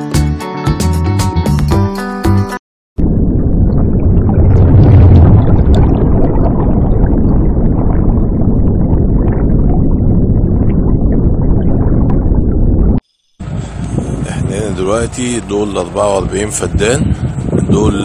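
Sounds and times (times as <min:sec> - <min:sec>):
underwater rumble and bubbles: 0:03.0 - 0:18.0.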